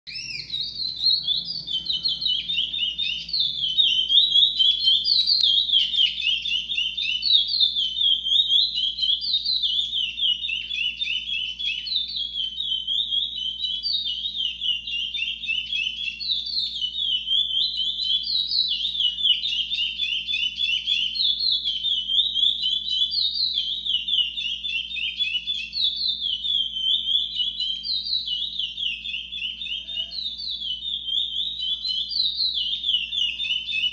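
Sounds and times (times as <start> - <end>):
finch singing whistled notes: 0.1 - 33.9.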